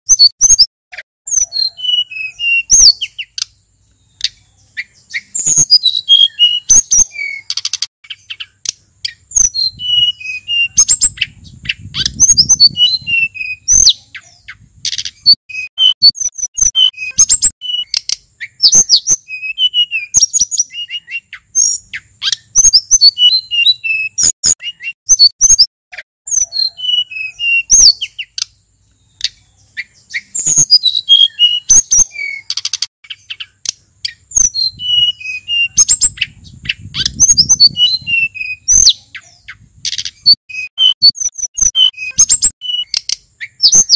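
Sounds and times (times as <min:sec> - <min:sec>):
songbird chirping and trilling: 0:00.1 - 0:43.9.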